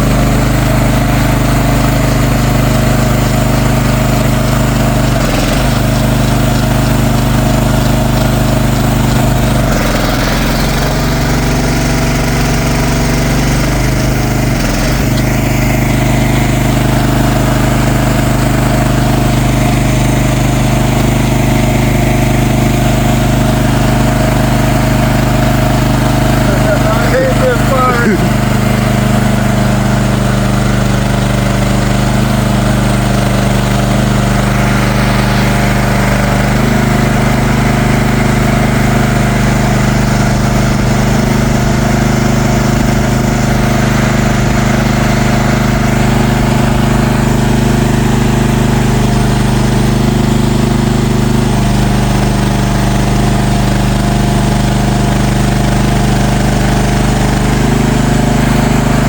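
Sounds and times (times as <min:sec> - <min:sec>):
loud engine running: 0:00.0 - 0:59.0.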